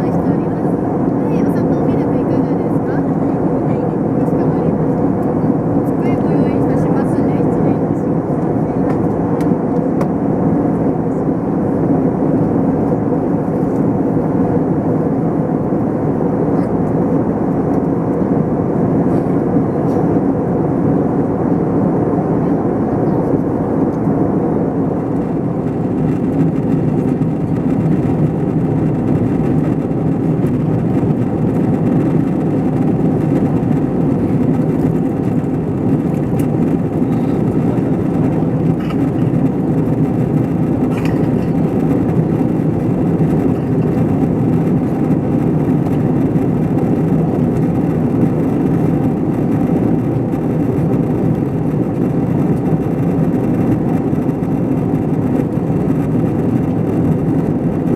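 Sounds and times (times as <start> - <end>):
aircraft cabin engine drone: 0.0 - 57.9.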